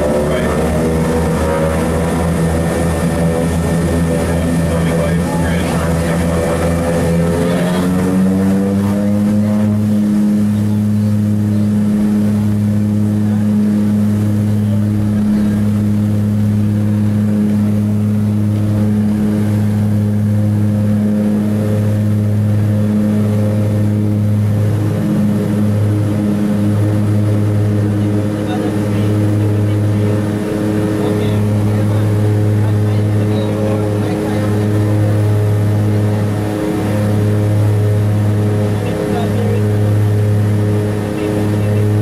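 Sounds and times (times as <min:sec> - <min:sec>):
propeller plane engines droning: 0:00.0 - 0:42.0.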